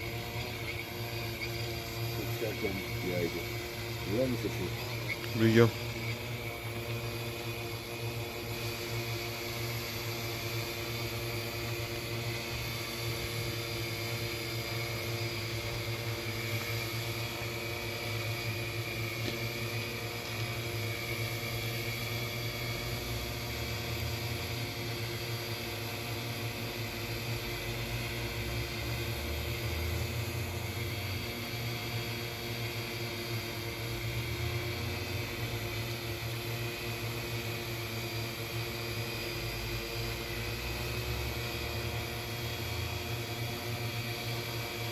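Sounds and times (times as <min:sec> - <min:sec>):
drone propellers whirring: 0:00.0 - 0:44.9.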